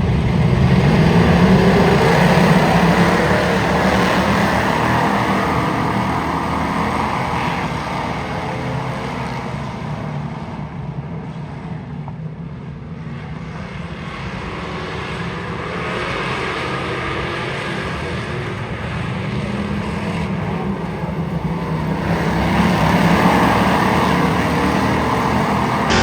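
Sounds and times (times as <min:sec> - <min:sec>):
race car engine: 0:00.0 - 0:26.0.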